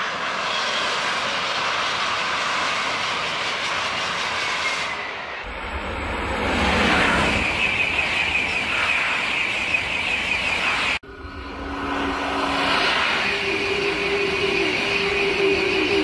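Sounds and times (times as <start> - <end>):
high-speed train passing: 0.0 - 16.0
train approaching with steady hum: 0.0 - 16.0.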